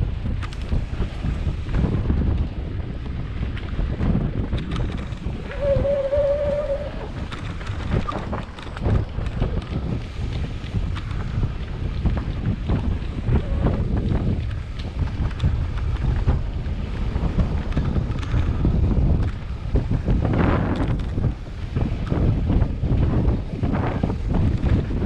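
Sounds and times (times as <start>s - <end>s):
bike clicking and rattling: 0.0s - 25.0s
low rumble: 0.0s - 25.0s
wind buffeting the microphone: 0.0s - 25.0s.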